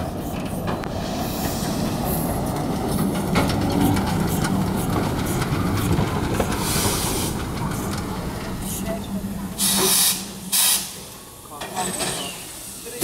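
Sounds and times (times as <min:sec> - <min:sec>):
steam locomotive rumbling: 0:00.0 - 0:13.0
wheels clattering on rails: 0:00.0 - 0:13.0
steam hissing: 0:00.2 - 0:03.2, 0:03.8 - 0:13.0.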